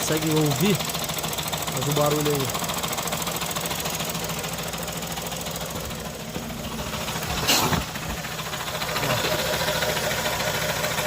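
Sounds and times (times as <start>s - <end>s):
car engine idling with knocking: 0.0s - 11.0s.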